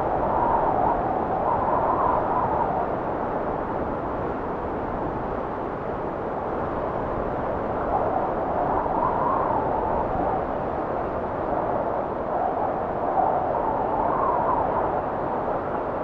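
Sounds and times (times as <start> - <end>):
blizzard wind rushing: 0.0 - 16.0
wind howling in gusts: 0.0 - 16.0.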